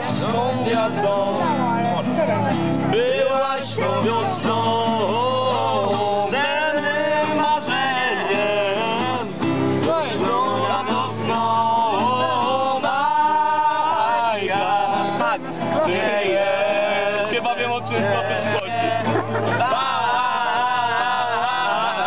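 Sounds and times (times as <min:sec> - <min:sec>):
young men singing together: 0:00.0 - 0:01.8, 0:02.9 - 0:22.0
classical guitar strummed: 0:00.0 - 0:22.0.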